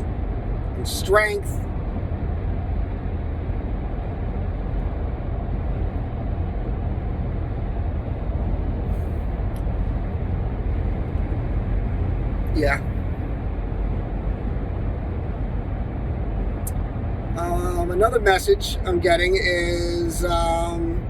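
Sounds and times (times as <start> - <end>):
road and engine rumble: 0.0 - 21.0.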